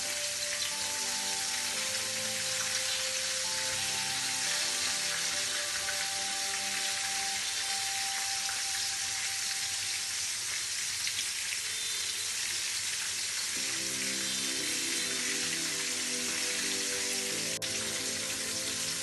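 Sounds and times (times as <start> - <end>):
soft background music: 0.0 - 10.4, 13.6 - 19.0
shrimp sizzling in hot oil: 0.0 - 19.0.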